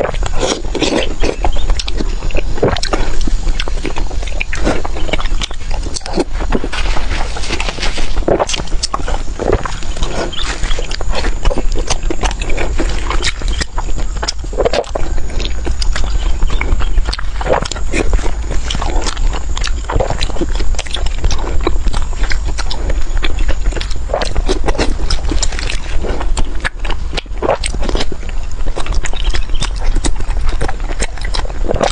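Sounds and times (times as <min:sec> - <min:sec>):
low steady hum: 0:00.0 - 0:31.9
wet chewing and mouth smacking: 0:00.0 - 0:31.9.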